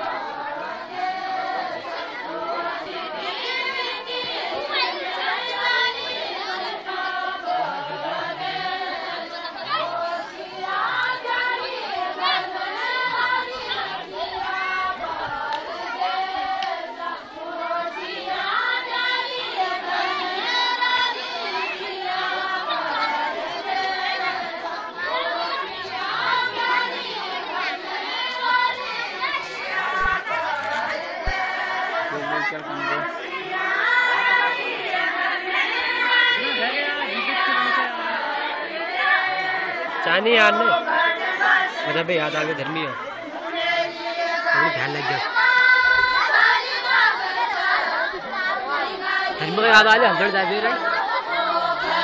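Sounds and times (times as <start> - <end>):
women singing folk song in chorus: 0.0 - 52.0.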